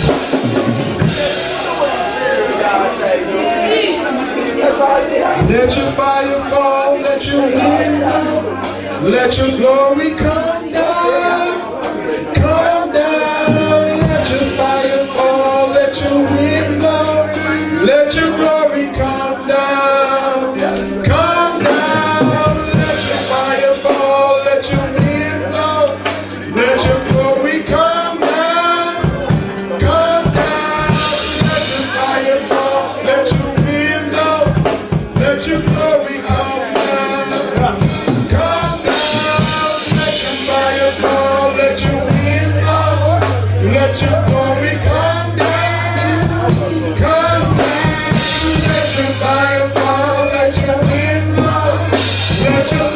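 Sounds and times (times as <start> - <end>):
gospel singing with drums and bass: 0.0 - 52.9.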